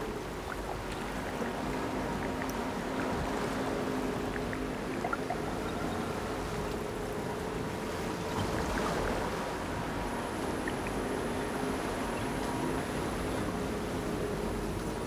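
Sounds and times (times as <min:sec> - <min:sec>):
faint held drone tones: 0:00.0 - 0:15.0
rushing water-like noise: 0:00.0 - 0:15.0.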